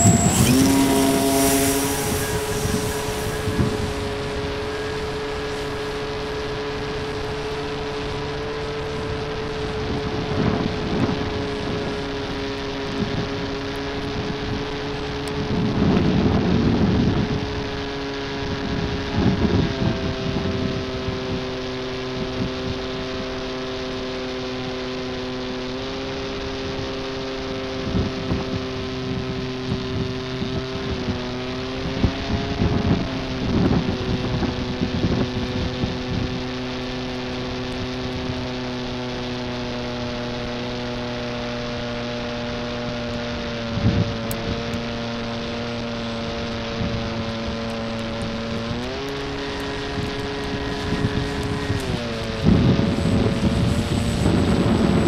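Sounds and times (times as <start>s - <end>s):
wind gusts over microphone: 0.0s - 23.4s, 26.0s - 55.0s
electric motor and propeller whining: 0.0s - 55.0s.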